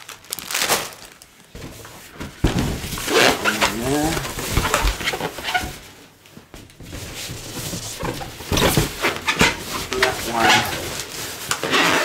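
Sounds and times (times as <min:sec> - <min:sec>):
balloons rubbing and squeaking: 0:01.6 - 0:06.1, 0:06.8 - 0:12.0.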